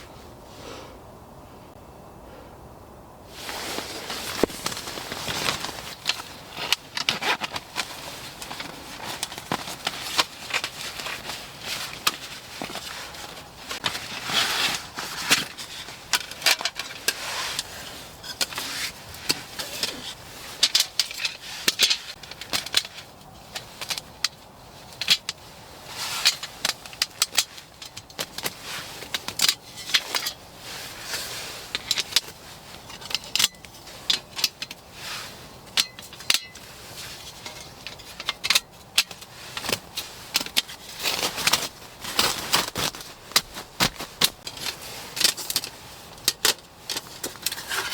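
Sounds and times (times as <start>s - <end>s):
camping gear clicking and clinking: 3.3s - 47.9s.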